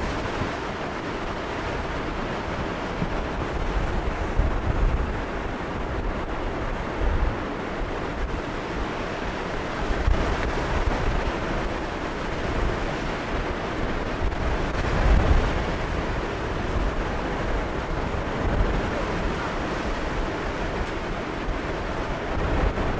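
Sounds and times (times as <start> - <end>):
strong wind buffeting microphone: 0.0 - 22.9.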